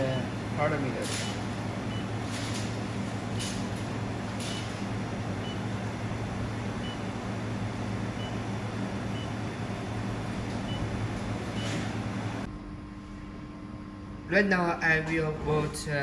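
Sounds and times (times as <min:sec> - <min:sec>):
welding machine hum and fan: 0:00.0 - 0:16.0.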